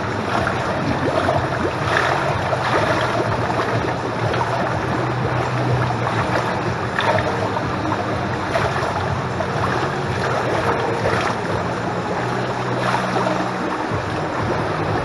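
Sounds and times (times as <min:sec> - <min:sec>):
pool water sloshing and lapping: 0:00.0 - 0:15.0
small water splashes: 0:00.0 - 0:15.0.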